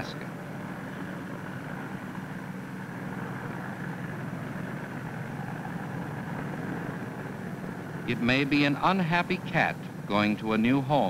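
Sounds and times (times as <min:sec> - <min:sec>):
engine running with whine: 0:00.0 - 0:11.0.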